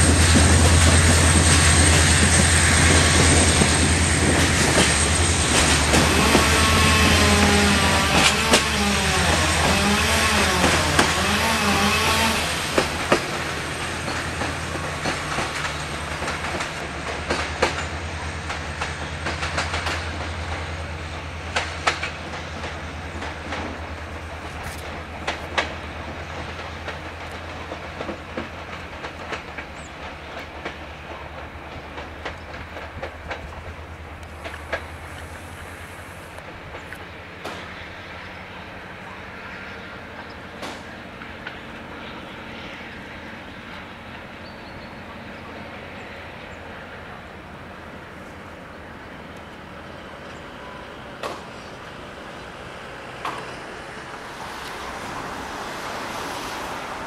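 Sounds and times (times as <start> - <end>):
train wheels clicking over rail joints: 0.0 - 44.9, 45.8 - 57.0
diesel locomotive engine drone: 0.0 - 57.0.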